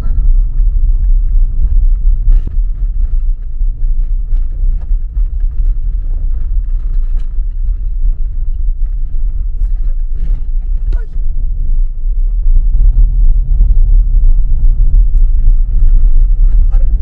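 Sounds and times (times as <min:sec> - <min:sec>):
car driving on road: 0:00.0 - 0:17.0.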